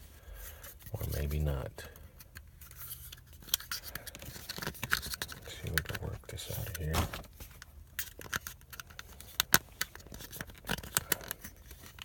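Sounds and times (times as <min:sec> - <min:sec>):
plastic switch clicking and scraping: 0:02.1 - 0:12.0.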